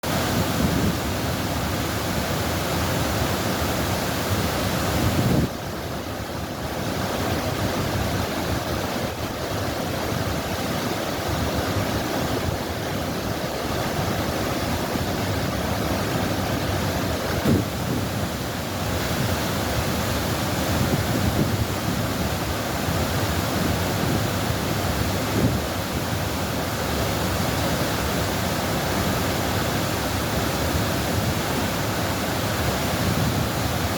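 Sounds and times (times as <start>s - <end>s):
rushing water: 0.0s - 33.9s.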